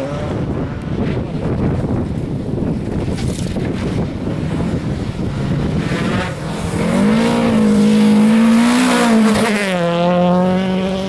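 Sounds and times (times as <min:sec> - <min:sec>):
wind and gravel noise: 0:00.0 - 0:10.3
rally car engine revving: 0:00.0 - 0:11.0.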